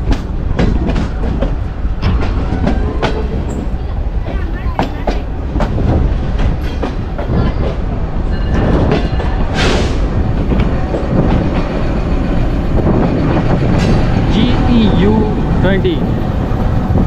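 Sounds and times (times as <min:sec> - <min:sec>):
train rumble: 0:00.0 - 0:17.0
wheels clacking over rail joints: 0:00.0 - 0:17.0.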